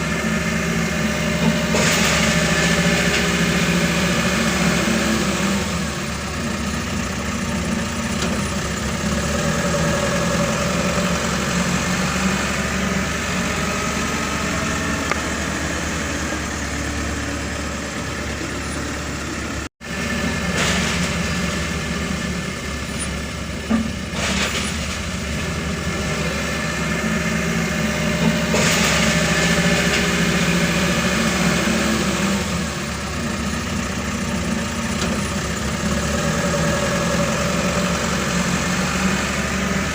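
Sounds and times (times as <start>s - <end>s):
heavy machine diesel engine running: 0.0s - 39.9s.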